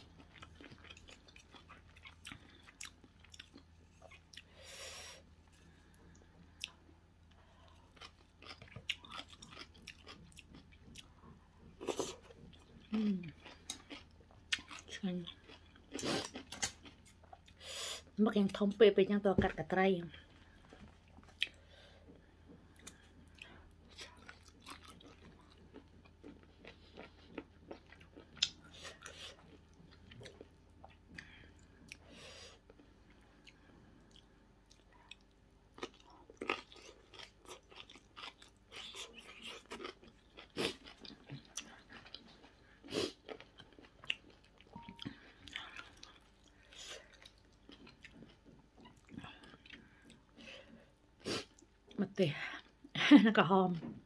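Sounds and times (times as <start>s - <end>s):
person chewing food: 0.0s - 18.6s, 20.1s - 52.0s.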